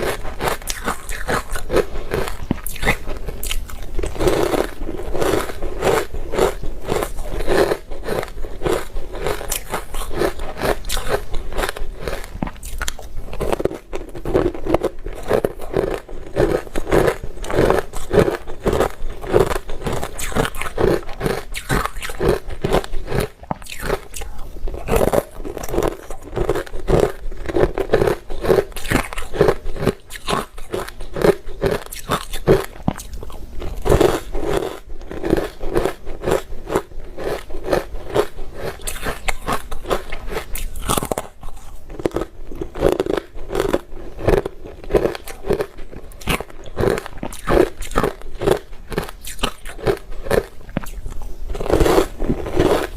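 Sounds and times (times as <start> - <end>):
person crunching ice: 0.0 - 52.9.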